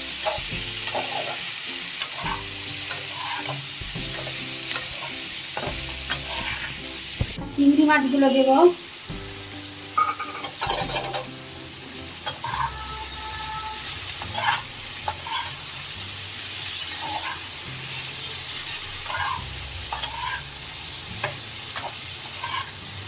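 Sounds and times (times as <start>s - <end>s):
prawns sizzling in oil: 0.0s - 23.0s.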